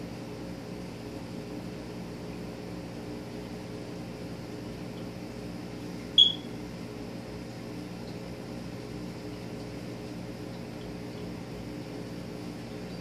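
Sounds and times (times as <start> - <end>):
aquarium air pump humming: 0.0 - 13.0.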